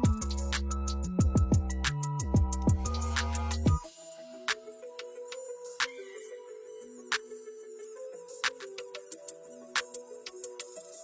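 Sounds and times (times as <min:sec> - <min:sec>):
electronic music with synth notes: 0:00.0 - 0:11.0.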